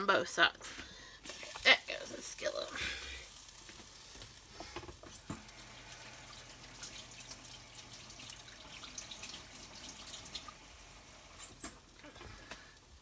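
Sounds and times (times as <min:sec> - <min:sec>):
french toast sizzling in butter: 0:01.0 - 0:13.0.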